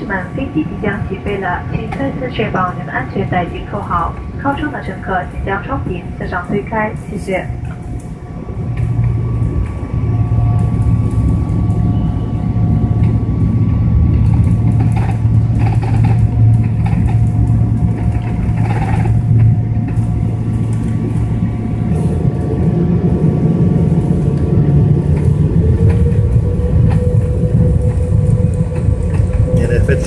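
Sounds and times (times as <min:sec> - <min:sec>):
engine fan whine: 0:00.0 - 0:30.0
jet engine low rumble: 0:00.0 - 0:30.0.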